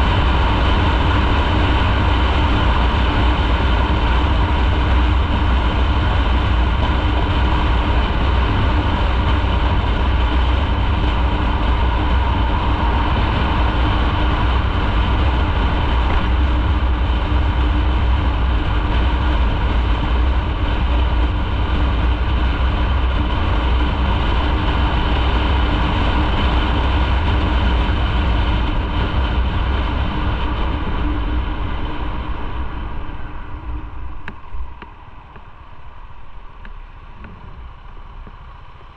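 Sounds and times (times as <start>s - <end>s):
road noise: 0.0s - 38.9s
wind rumble on microphone: 0.0s - 38.9s.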